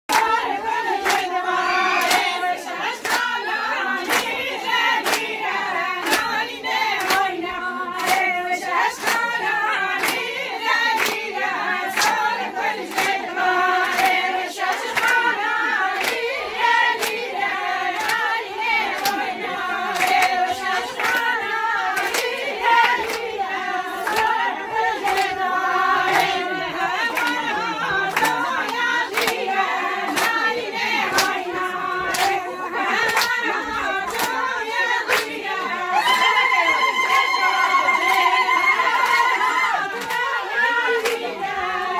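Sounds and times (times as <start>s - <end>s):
rhythmic hand-clapping: 0.1s - 41.9s
women singing together: 0.1s - 41.9s.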